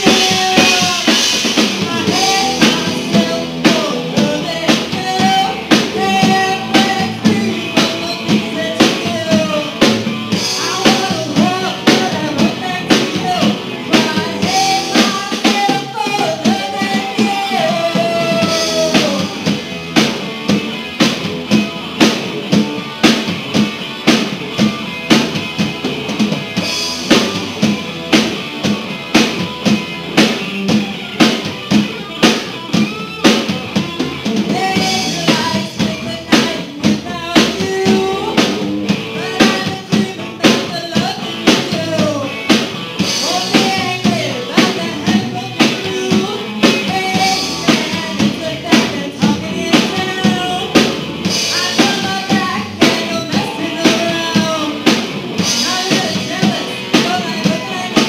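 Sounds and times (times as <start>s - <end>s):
bass guitar: 0.0s - 58.0s
drum kit steady beat: 0.0s - 58.0s
electric guitars: 0.0s - 58.0s.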